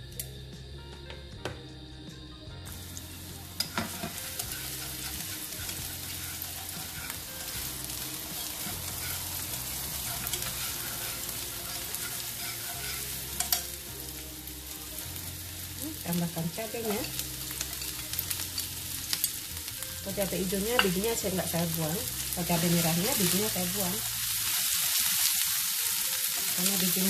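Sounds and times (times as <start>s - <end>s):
shallots sizzling in oil: 2.5s - 27.0s.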